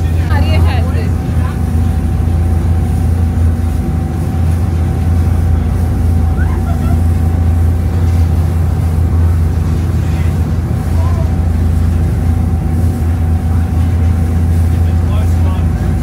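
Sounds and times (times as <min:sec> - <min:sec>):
ferry engines droning: 0:00.0 - 0:16.0
rush of water and air: 0:00.0 - 0:16.0
thin steady whine: 0:00.0 - 0:16.0.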